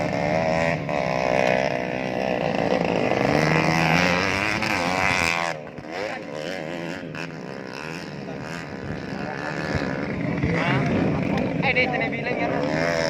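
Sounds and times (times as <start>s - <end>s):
dirt bike engines racing: 0.0s - 13.0s.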